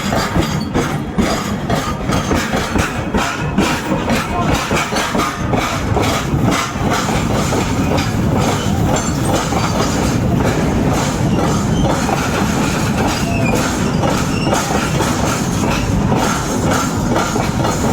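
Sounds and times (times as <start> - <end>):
train wheels clickety-clack: 0.0 - 17.9
train wheels rumbling on track: 0.0 - 17.9.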